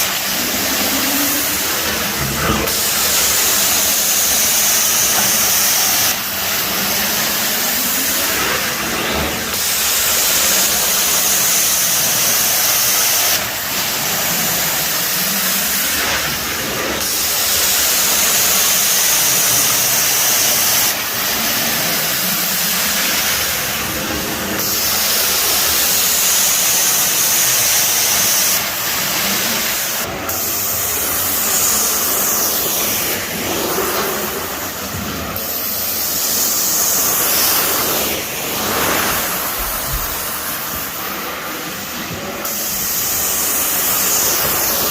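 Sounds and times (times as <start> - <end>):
hiss of spray and suction: 0.0 - 44.9.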